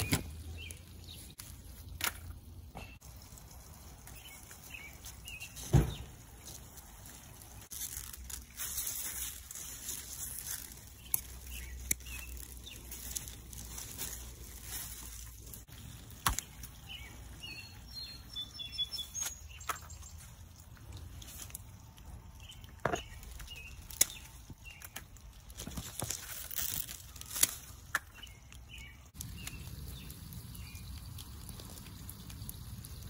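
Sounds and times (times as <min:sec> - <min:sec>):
leaves and stems rustling: 0:00.0 - 0:33.0.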